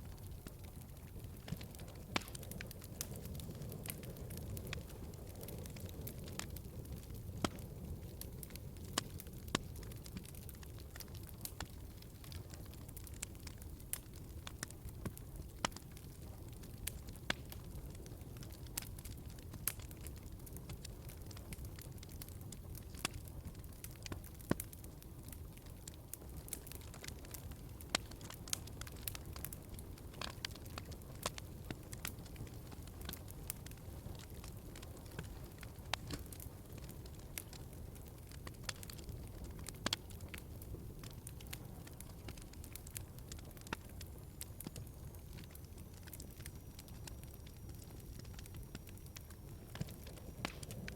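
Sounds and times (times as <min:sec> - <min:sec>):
log fire crackling: 0:00.0 - 0:50.9.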